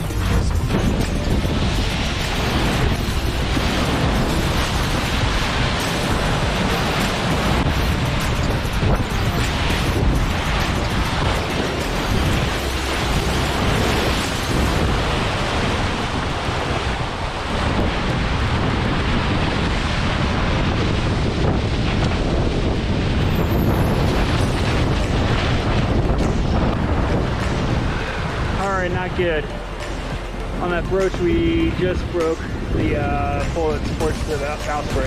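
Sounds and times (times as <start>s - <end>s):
rushing sea water: 0.0s - 35.0s
wind buffeting microphone: 0.0s - 35.0s.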